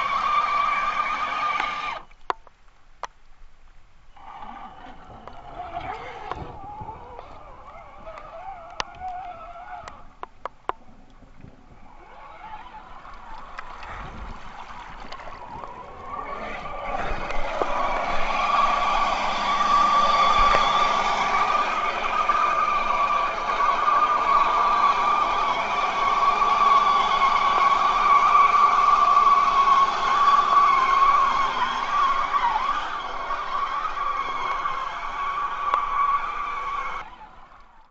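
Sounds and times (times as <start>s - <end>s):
electric motor and gears whining: 0.0s - 2.2s, 4.2s - 37.9s.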